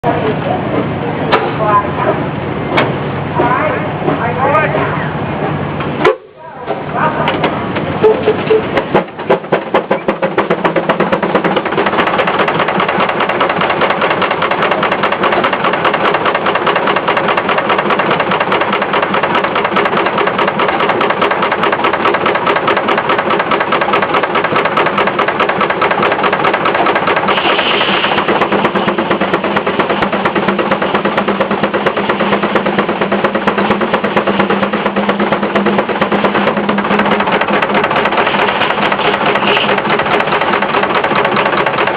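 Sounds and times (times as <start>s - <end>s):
sawmill machinery running: 0.0s - 41.9s
steam engine exhaust beats: 7.2s - 41.9s.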